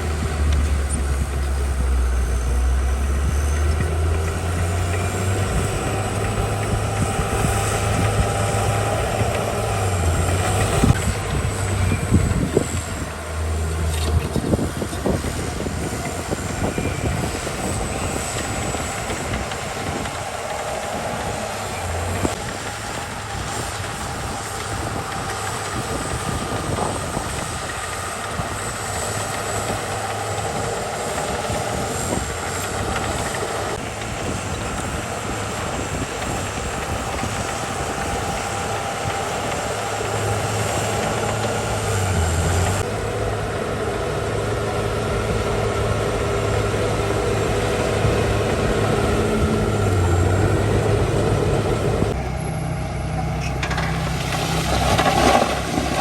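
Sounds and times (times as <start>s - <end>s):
bulldozer diesel engine: 0.0s - 56.0s
dump truck engine: 0.0s - 56.0s.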